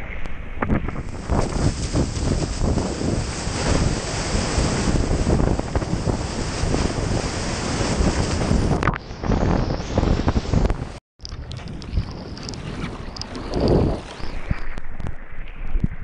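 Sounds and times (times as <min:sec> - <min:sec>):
wind buffeting microphone: 0:00.0 - 0:16.0
rushing water and surf: 0:00.7 - 0:15.8.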